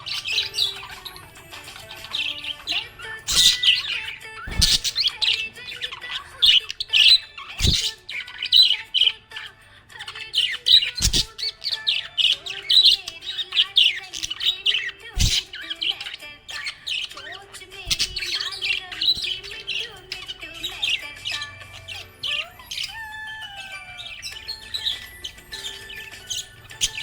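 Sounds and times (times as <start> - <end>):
budgerigar chirping and warbling: 0.0 - 27.0.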